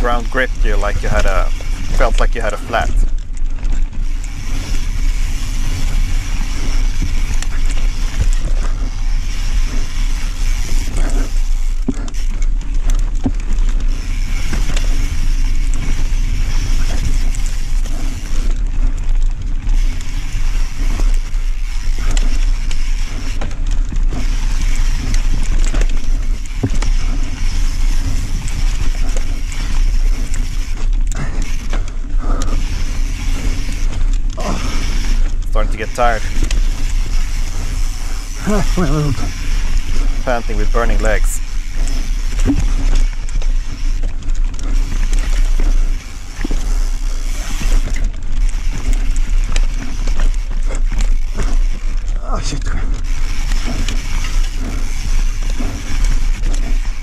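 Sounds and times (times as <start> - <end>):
bike clicking and rattling: 0.0 - 57.0
tyres rumbling on dirt trail: 0.0 - 57.0.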